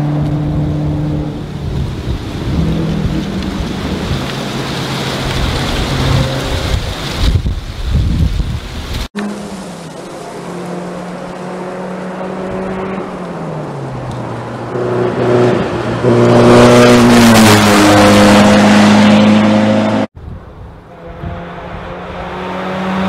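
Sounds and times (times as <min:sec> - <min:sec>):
rally car engine: 0:00.0 - 0:07.2, 0:09.2 - 0:20.1, 0:20.7 - 0:23.0
gravel and tyre noise: 0:00.0 - 0:23.0.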